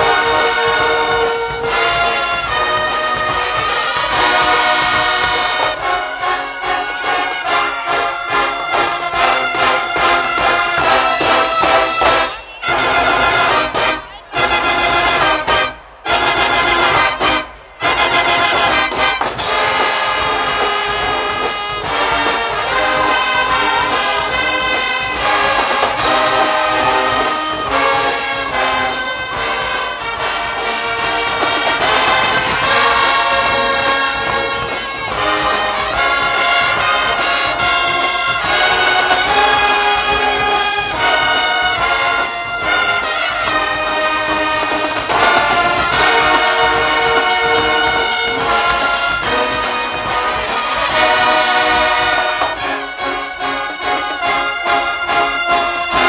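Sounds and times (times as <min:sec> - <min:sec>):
brass band with drums playing: 0:00.0 - 0:56.0.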